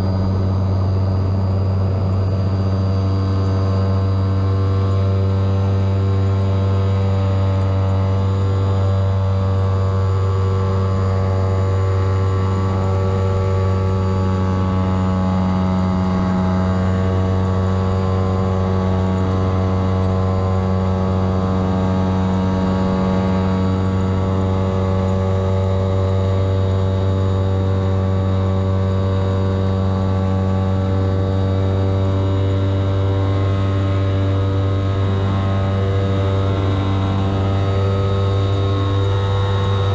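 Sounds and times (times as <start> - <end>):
model plane engine and propeller: 0.0 - 39.9.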